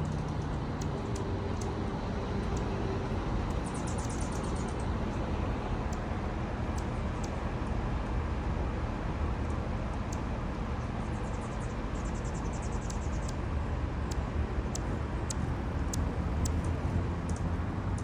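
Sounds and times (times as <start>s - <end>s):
hummingbird chip calls: 0.0s - 7.5s, 9.9s - 18.0s
steady low rumble: 0.0s - 18.0s.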